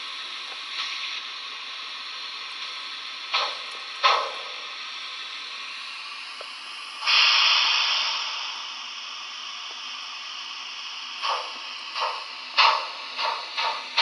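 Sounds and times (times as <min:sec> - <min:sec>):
steady steam hiss from small speaker: 0:00.0 - 0:14.0
steam blasts: 0:00.0 - 0:14.0.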